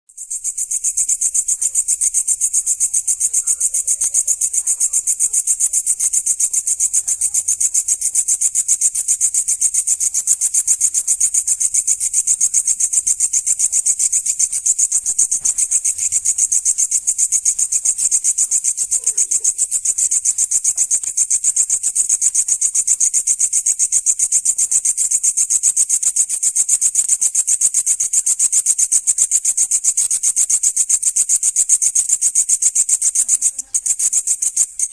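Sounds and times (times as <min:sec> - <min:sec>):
insect rasping song: 0:00.1 - 0:34.9.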